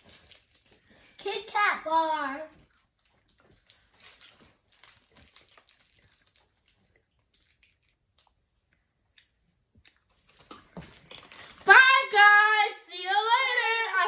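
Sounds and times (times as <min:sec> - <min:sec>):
wrapper crinkling: 0:00.0 - 0:01.3, 0:02.4 - 0:08.4, 0:09.9 - 0:14.0.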